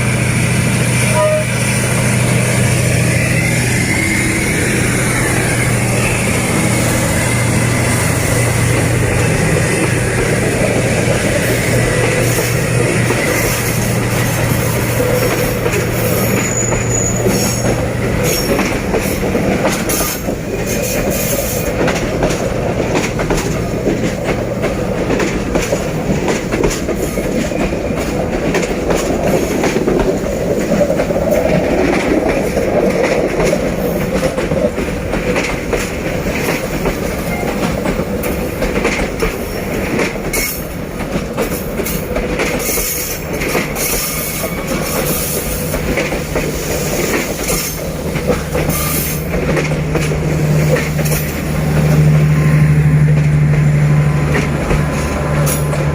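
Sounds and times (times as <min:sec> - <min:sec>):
train wheels clicking over rail joints: 0:00.0 - 0:55.9.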